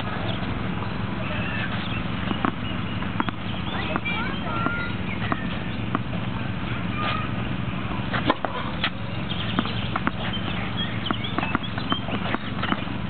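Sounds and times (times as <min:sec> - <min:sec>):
steady low hum: 0:00.0 - 0:13.0
tennis ball bouncing: 0:00.0 - 0:13.0
racket hitting tennis ball: 0:01.6 - 0:13.0.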